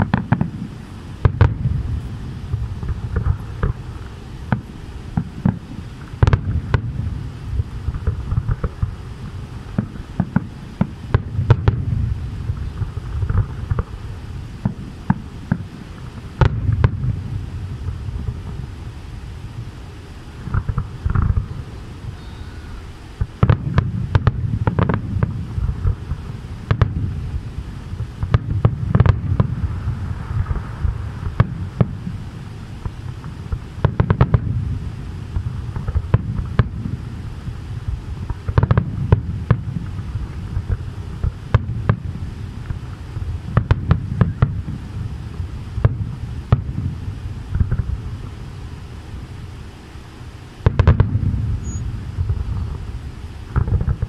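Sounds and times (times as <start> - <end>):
continuous low rumble: 0.0 - 54.0
fireworks bursting with bangs: 0.0 - 54.0.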